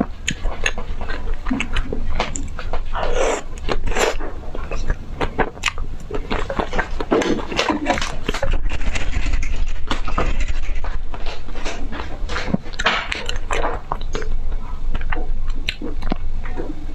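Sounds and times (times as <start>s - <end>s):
chewing crunchy ice cream: 0.0s - 16.9s.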